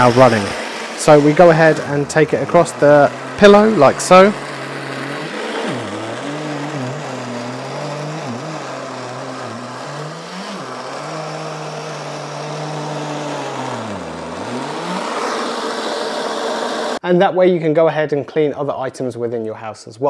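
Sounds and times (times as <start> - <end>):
vacuum motor hum and suction: 0.0 - 17.0.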